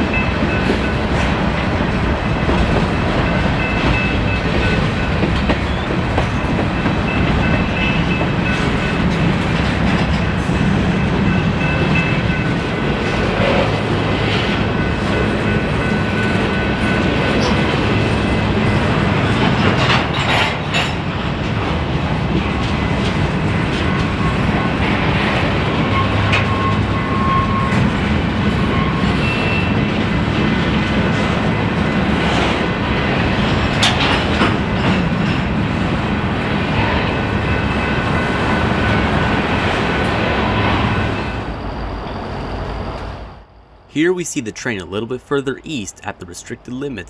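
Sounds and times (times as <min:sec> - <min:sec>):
train cars clanking: 0:00.0 - 0:43.4
train wheels rumbling on rail: 0:00.0 - 0:43.9.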